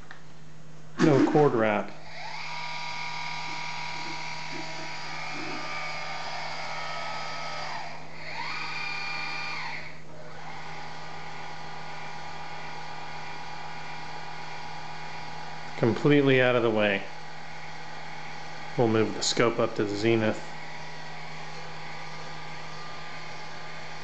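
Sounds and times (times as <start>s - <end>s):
telescope drive motors whining: 2.0s - 24.0s.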